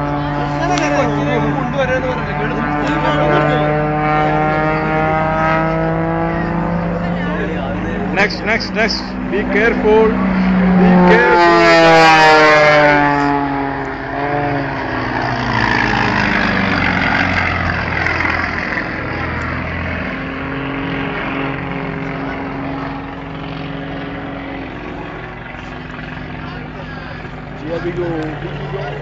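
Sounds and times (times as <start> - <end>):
airplane engine drone: 0.0 - 29.0.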